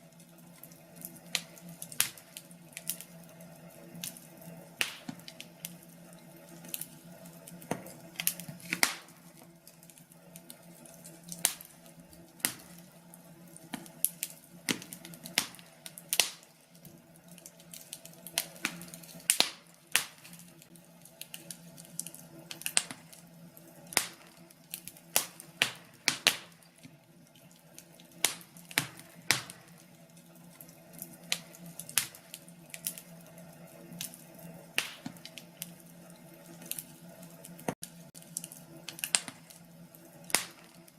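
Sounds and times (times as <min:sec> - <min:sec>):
fire popping: 0:00.0 - 0:40.9
wood fire crackling: 0:00.0 - 0:40.9.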